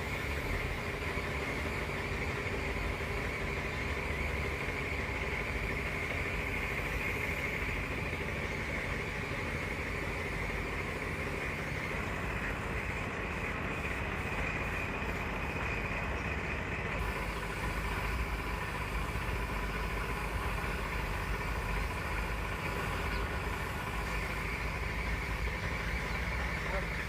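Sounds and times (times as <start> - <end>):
motor running: 0.0 - 27.0.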